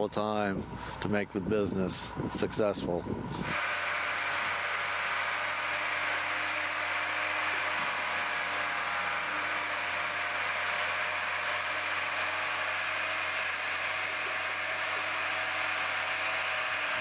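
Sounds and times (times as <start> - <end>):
machine droning hum: 0.0 - 17.0.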